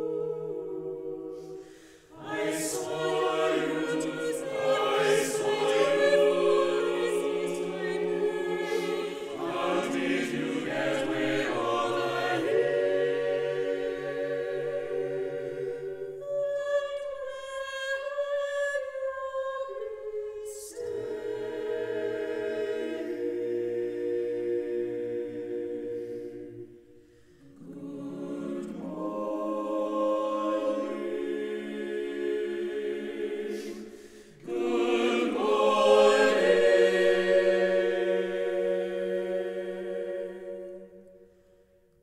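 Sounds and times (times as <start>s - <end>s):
choir singing a cappella: 0.0s - 42.0s.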